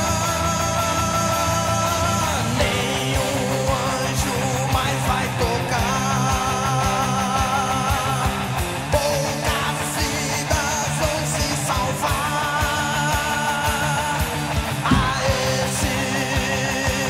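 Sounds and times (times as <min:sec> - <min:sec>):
distorted electric guitars: 0:00.0 - 0:17.0
fast driving drums: 0:00.0 - 0:17.0.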